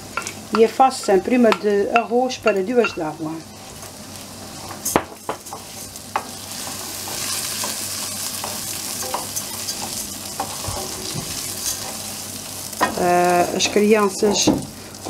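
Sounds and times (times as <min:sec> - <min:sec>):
rice sizzling in oil: 0:00.0 - 0:15.0.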